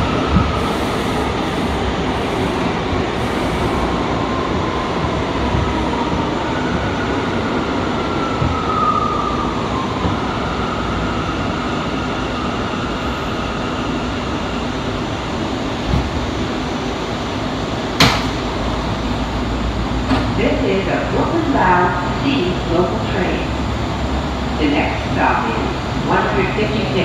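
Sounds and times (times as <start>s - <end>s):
subway traction motor whine: 0.0s - 27.0s.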